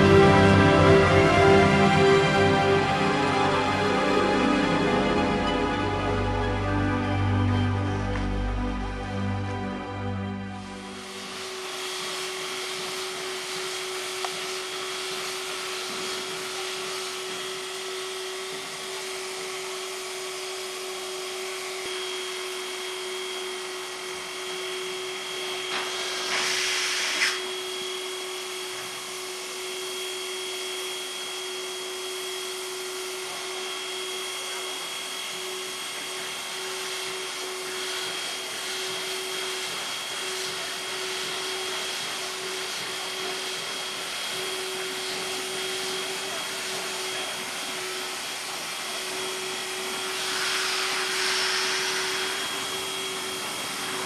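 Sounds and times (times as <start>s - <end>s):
machine whine: 0.0s - 54.0s
rush of hissing steam: 10.5s - 54.0s
steam hissing: 10.5s - 54.0s.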